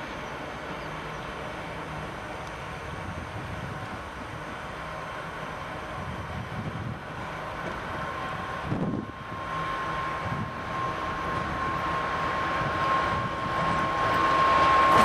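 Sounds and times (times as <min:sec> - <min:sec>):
diesel locomotive engine whine: 0:00.0 - 0:15.0.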